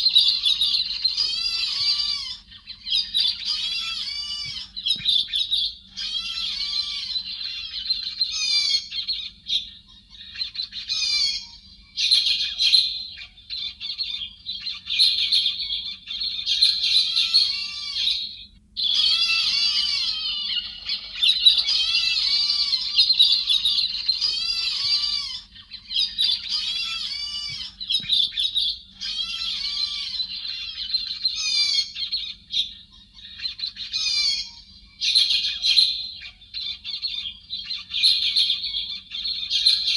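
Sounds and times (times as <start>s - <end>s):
bird squawking and chirping: 0.0s - 39.9s.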